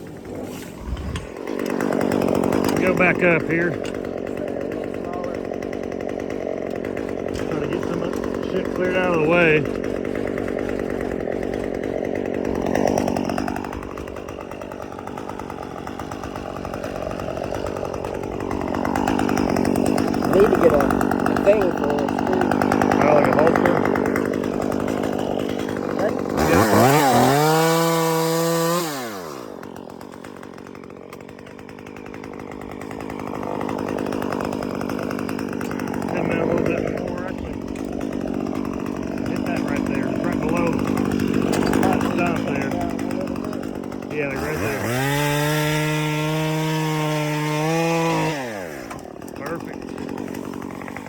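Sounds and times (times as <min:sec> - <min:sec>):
chainsaw revving: 0:00.0 - 0:51.0.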